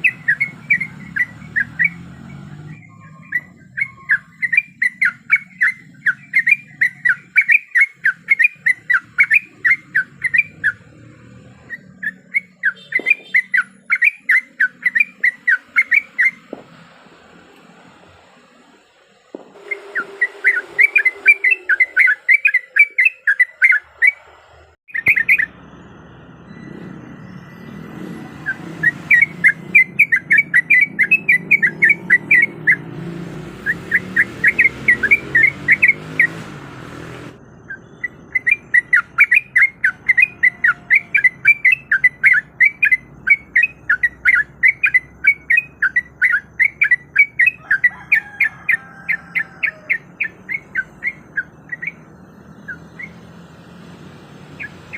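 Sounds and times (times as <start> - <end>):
bird calling in sharp notes: 0.0 - 16.5, 19.5 - 24.3, 24.9 - 25.6, 26.5 - 36.5, 37.6 - 54.9.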